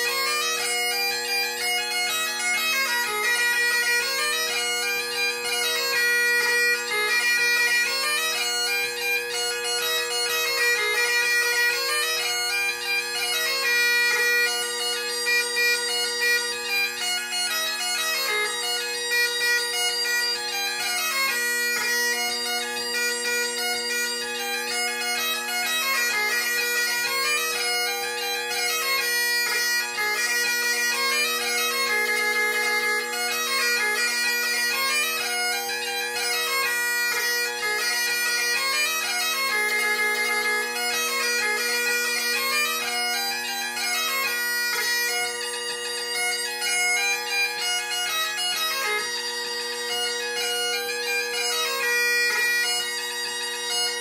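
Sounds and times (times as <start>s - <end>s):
bagpipe drones: 0.0s - 54.0s
bagpipe melody on chanter: 0.0s - 54.0s.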